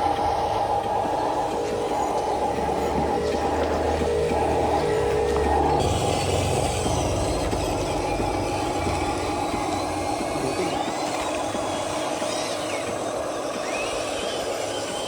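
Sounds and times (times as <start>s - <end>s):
low hum: 0.0s - 15.0s
toy vehicle motor and gearing: 0.0s - 15.0s.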